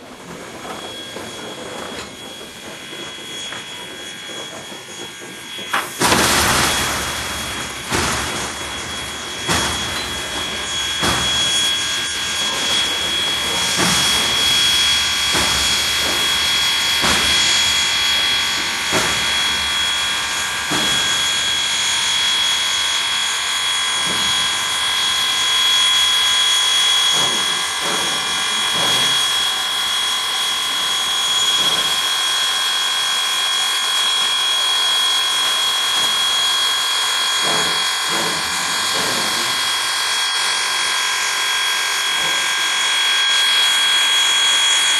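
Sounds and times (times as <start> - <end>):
steam hissing: 0.4 - 44.9.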